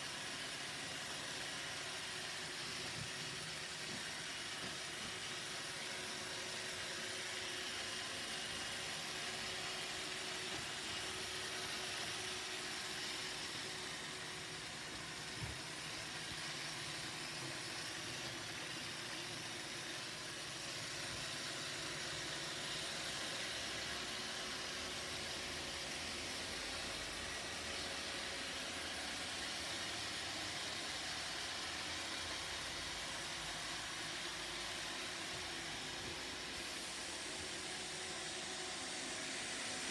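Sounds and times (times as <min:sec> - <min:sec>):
robot vacuum whirring: 0:00.1 - 0:39.9.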